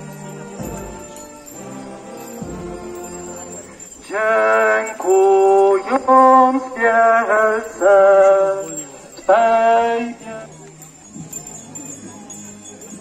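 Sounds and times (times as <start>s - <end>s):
hymn sung over loudspeakers: 0.0s - 10.9s.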